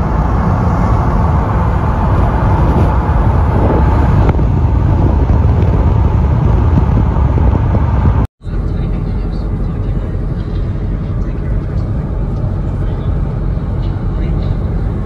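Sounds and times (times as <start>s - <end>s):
road and wind noise in car: 0.0s - 15.0s.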